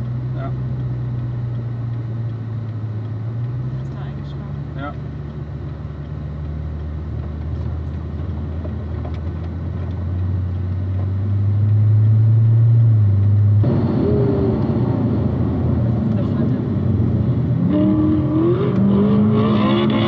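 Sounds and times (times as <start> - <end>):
car engine running while driving: 0.0 - 20.0
road noise: 0.0 - 20.0.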